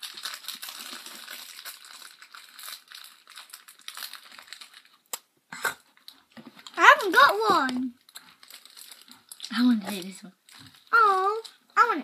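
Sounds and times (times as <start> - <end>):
sweet wrapper crinkling: 0.0 - 5.3, 5.9 - 11.6.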